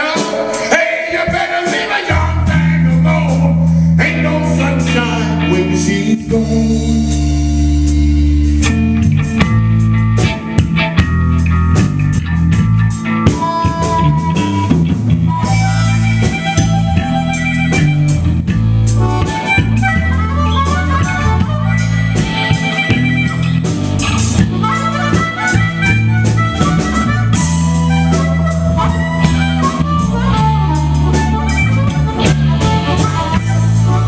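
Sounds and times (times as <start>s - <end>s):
drum kit: 0.0s - 34.0s
electric bass: 0.0s - 34.0s
electric guitar: 0.0s - 34.0s.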